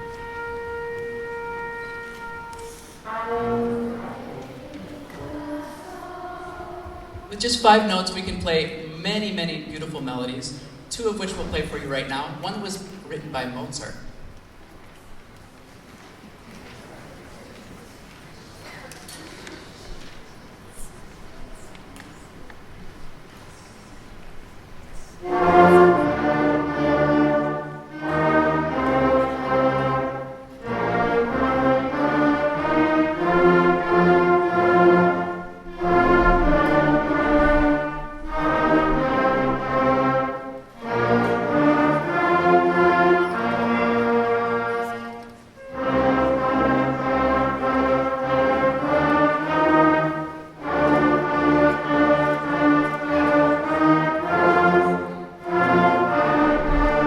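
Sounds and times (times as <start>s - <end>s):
wind band playing a simple melody: 0.0s - 13.8s, 25.2s - 57.0s.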